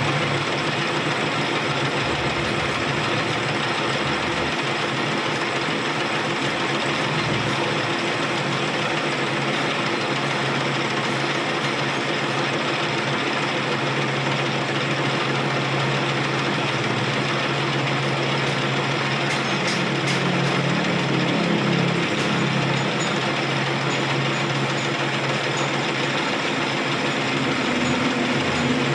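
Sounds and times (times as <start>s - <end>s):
workshop machine humming: 0.0s - 28.9s.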